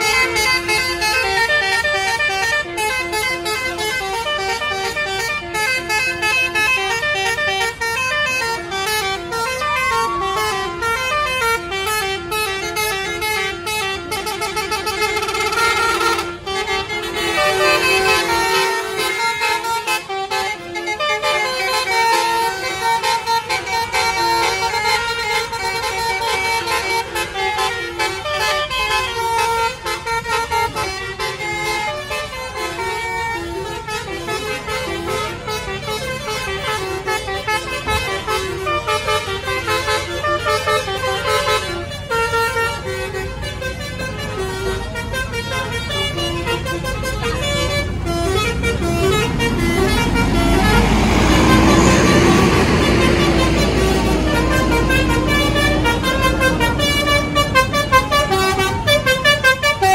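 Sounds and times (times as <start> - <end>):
bus engine rumble: 0.0 - 59.9
electric trumpet horns tune: 0.0 - 59.9.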